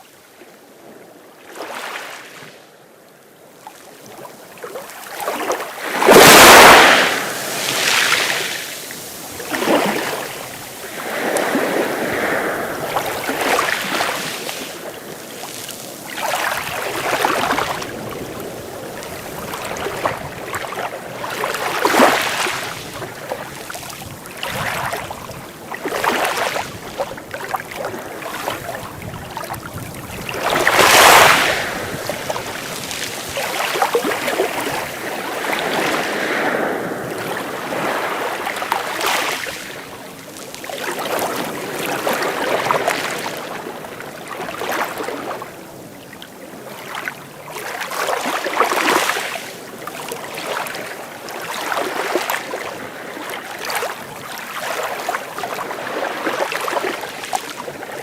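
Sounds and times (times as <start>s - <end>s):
sea waves breaking on beach: 1.4s - 2.6s, 3.6s - 58.0s.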